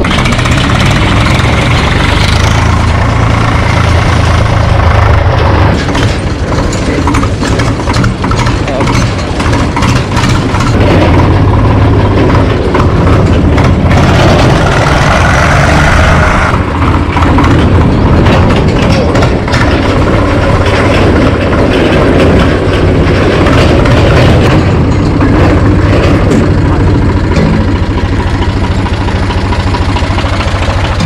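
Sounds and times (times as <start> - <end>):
loud rattling noise: 0.0 - 31.0
tractor diesel engine running: 0.0 - 31.0.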